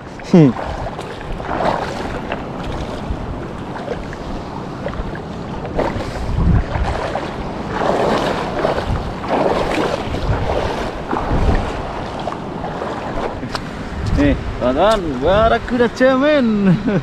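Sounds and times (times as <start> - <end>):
shallow seawater sloshing: 0.0 - 14.0
wind buffeting microphone: 0.0 - 17.0.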